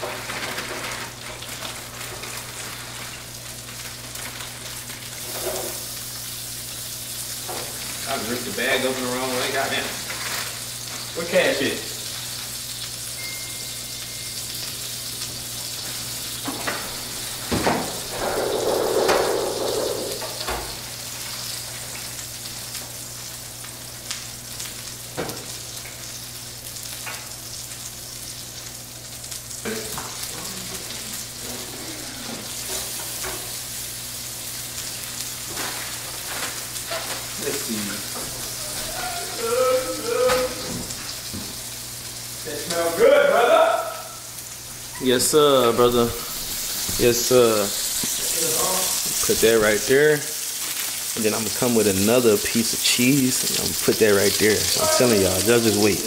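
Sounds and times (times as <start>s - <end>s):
patties sizzling in a pan: 0.0s - 56.0s.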